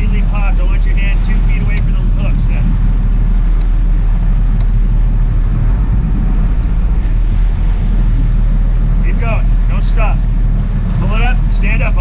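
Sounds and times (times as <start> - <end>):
boat engines rumbling: 0.0 - 12.0.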